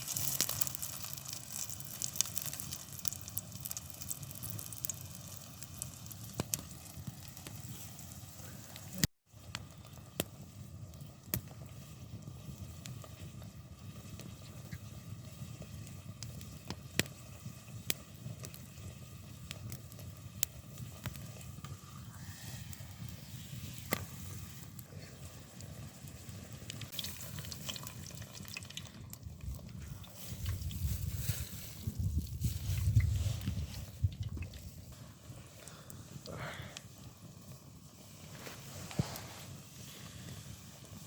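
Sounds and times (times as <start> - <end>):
fire crackling: 0.0 - 41.0.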